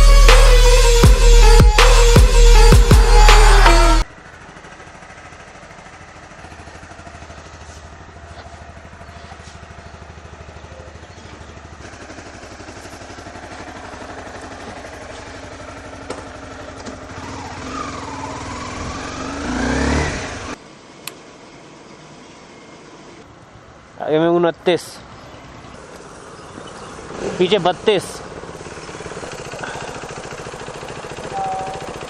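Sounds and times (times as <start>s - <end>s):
motorcycle engine running: 0.0s - 23.8s, 25.0s - 32.0s.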